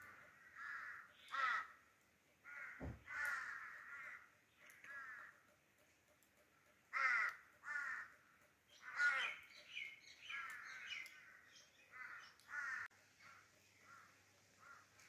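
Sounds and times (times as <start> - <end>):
crow-like bird cawing: 0.0 - 5.5, 6.9 - 9.5, 10.2 - 15.0.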